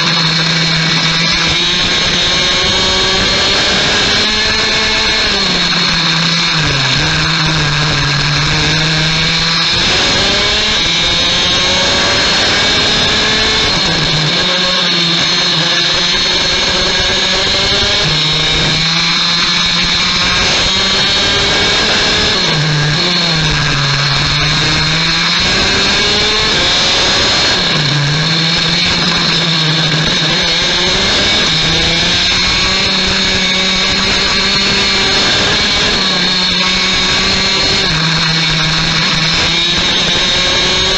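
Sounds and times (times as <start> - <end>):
kart two-stroke engine revving: 0.0 - 40.9.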